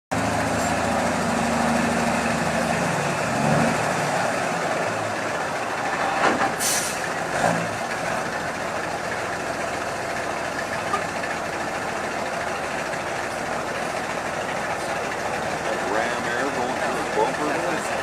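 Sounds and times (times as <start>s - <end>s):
truck engine running: 0.1s - 18.0s.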